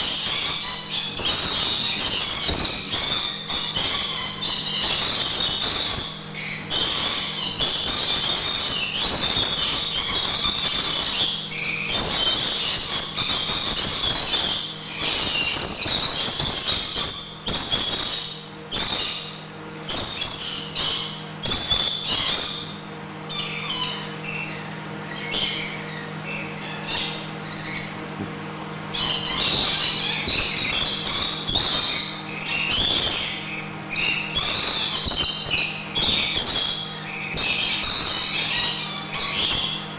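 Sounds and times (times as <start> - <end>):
parrots screeching and chattering: 0.0 - 28.1, 28.9 - 39.9
steady low hum: 0.0 - 39.9.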